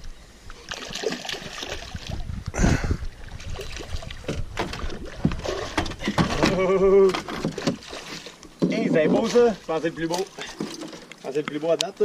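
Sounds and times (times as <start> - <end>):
water splashing around boat: 0.5 - 11.5.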